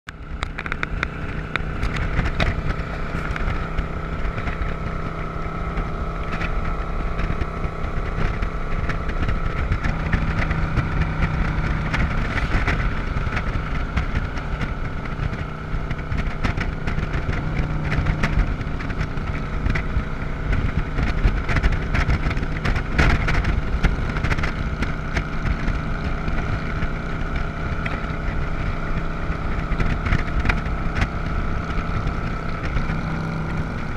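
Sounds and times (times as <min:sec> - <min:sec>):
motorcycle engine cruising: 0:00.1 - 0:33.9
wind buffeting microphone: 0:00.1 - 0:33.9.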